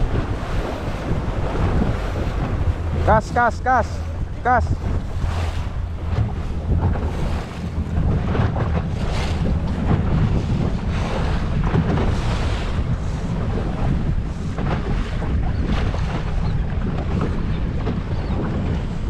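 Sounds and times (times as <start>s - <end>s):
boat engine drone: 0.0s - 19.0s
waves washing: 0.0s - 19.0s
wind buffeting microphone: 0.0s - 19.0s.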